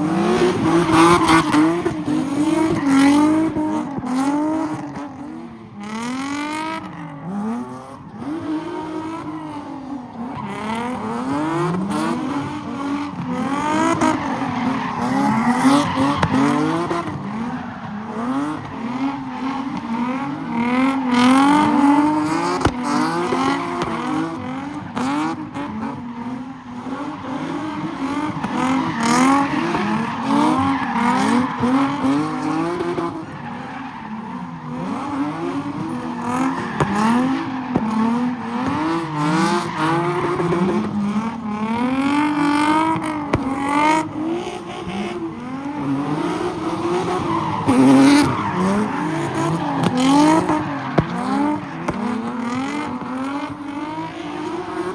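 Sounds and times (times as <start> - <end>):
car engine revving: 0.0 - 54.9
tyres squealing and skidding: 0.0 - 54.9.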